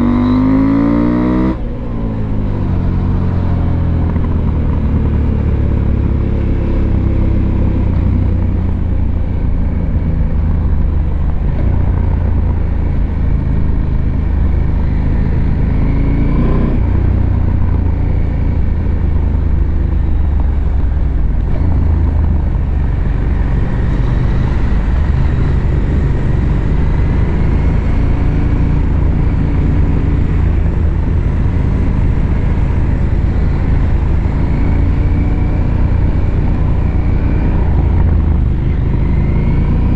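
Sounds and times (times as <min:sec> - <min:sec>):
motorcycle engine: 0:00.0 - 0:39.9
wind noise: 0:00.0 - 0:39.9.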